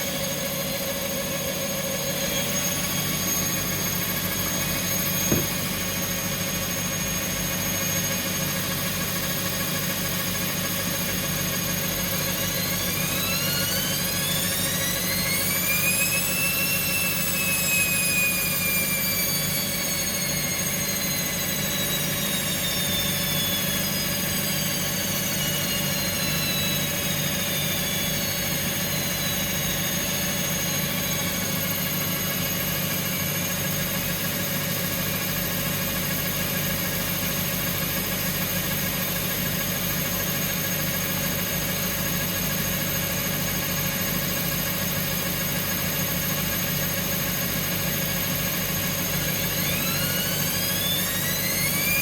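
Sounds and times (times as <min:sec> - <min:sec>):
motor whine: 0:00.0 - 0:52.0
washing machines spinning: 0:00.0 - 0:52.0.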